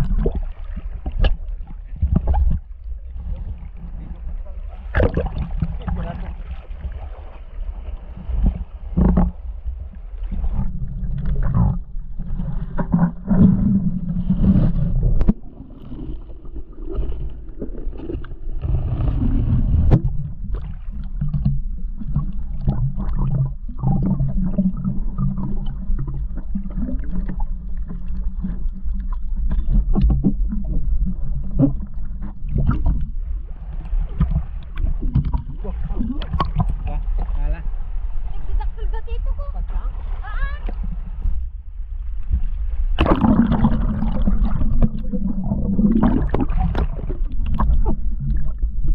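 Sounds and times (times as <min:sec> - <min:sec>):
muffled underwater rumble: 0:00.0 - 0:48.9
seawater sloshing and splashing: 0:00.0 - 0:48.9.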